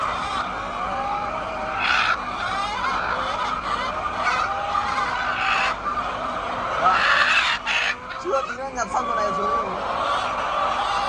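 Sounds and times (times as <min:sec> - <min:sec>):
hens clucking and squawking: 0:00.0 - 0:11.0.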